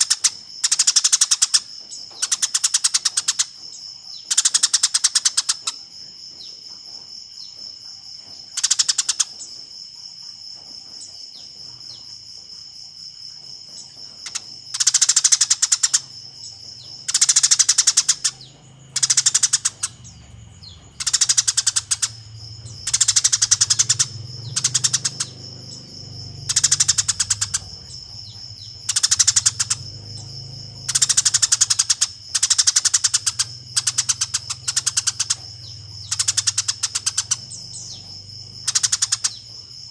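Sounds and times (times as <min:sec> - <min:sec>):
sparrows chattering: 0:00.0 - 0:07.6, 0:08.2 - 0:09.7, 0:13.7 - 0:39.9.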